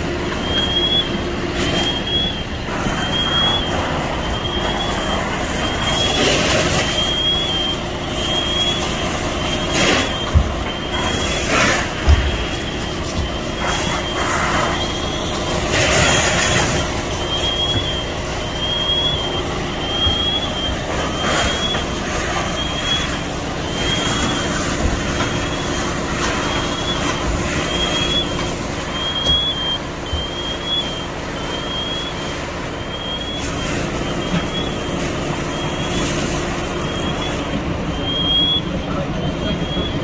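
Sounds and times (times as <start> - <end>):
hose jet spraying water: 0.0 - 38.5
diesel engines running: 0.0 - 40.0.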